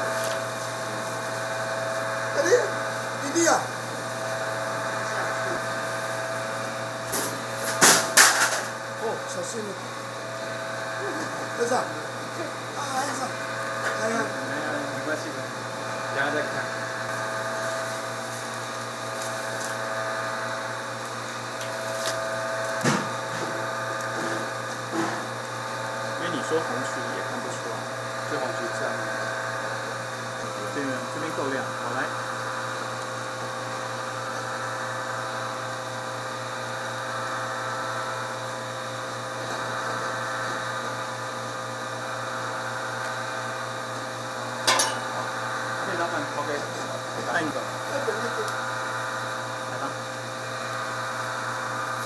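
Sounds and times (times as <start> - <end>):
electric motor humming: 0.0 - 52.0.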